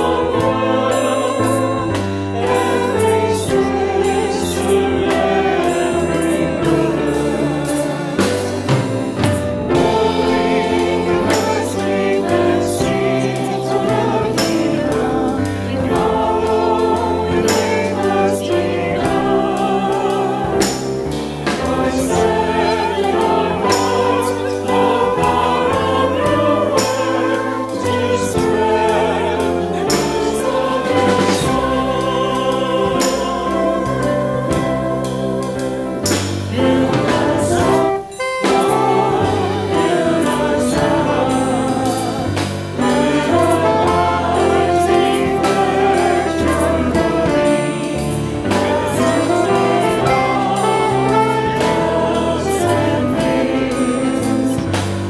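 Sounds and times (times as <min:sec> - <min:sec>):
keyboard accompaniment: 0:00.0 - 0:55.0
voices singing a hymn: 0:00.0 - 0:55.0.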